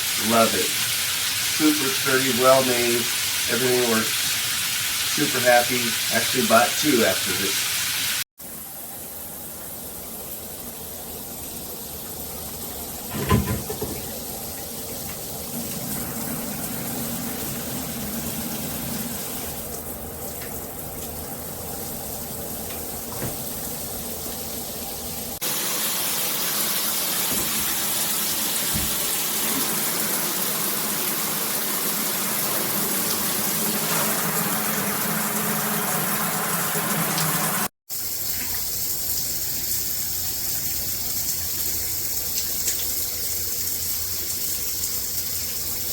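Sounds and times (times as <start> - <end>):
shower spraying water: 0.0 - 45.9.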